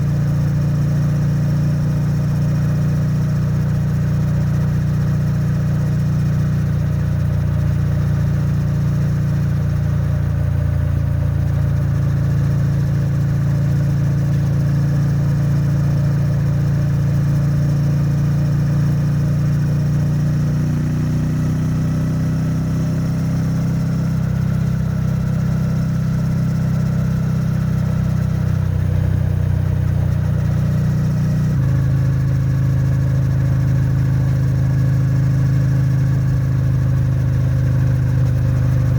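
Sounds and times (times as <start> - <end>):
motorcycle engine and exhaust cruising: 0.0 - 38.9.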